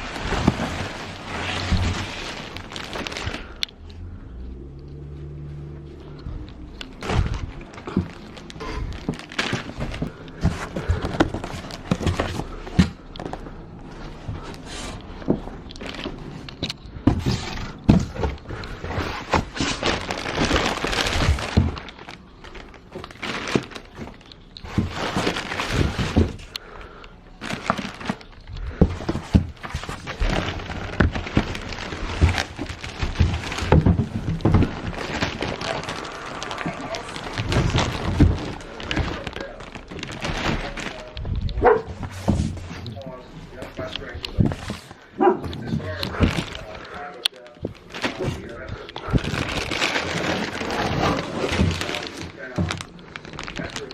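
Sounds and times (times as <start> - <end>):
packaging rustling: 0.0 - 3.9, 5.3 - 53.9.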